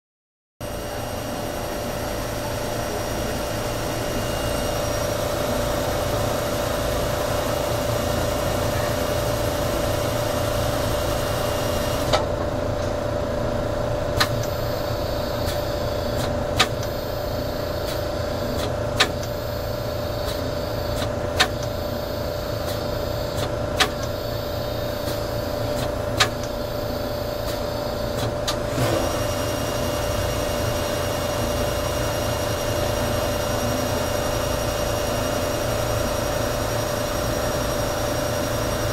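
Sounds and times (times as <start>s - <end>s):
lathe machine hum: 0.6s - 38.9s.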